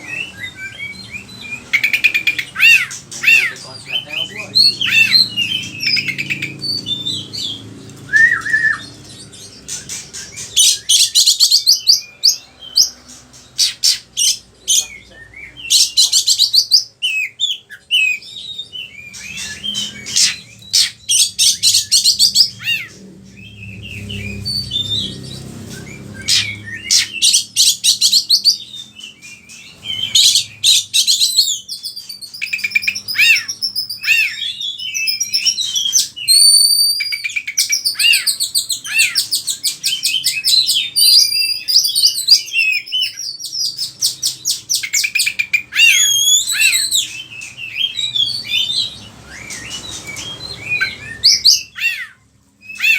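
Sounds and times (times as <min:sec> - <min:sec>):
bird singing trills and whistles: 0:00.0 - 0:52.9.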